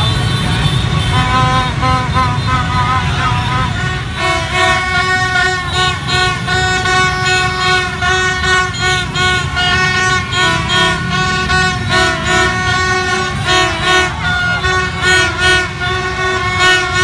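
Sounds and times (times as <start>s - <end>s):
motorbike horns: 0.0s - 17.0s
rumble of crowd and motorbikes: 0.0s - 17.0s
plastic fan trumpets tooting: 1.1s - 17.0s.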